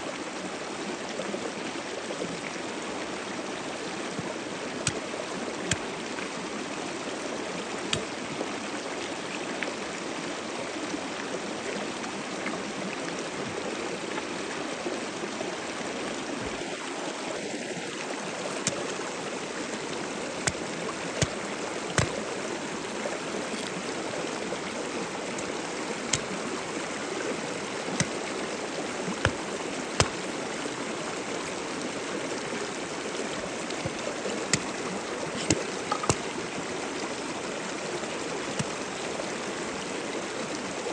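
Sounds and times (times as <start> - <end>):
river rushing: 0.1 - 40.9.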